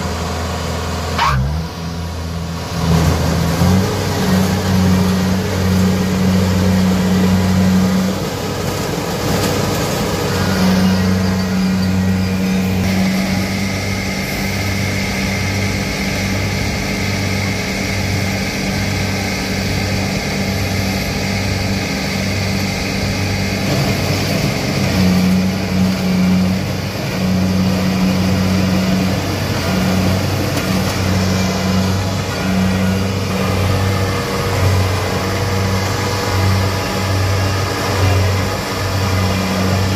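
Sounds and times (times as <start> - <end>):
harvester engine droning: 0.0 - 39.9.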